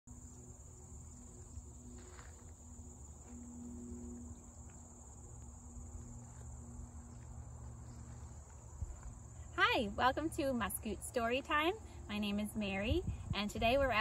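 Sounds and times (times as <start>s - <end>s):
crickets chirping: 0.1s - 14.0s.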